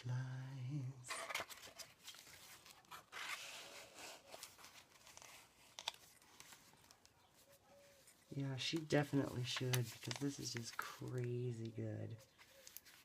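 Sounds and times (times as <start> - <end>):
paper pages rustling and turning: 1.1 - 13.0.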